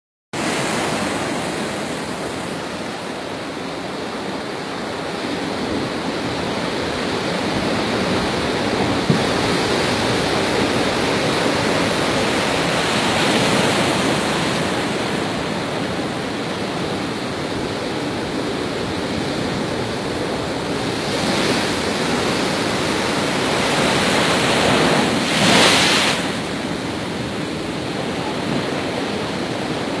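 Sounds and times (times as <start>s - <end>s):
storm surf breaking: 0.4s - 30.0s.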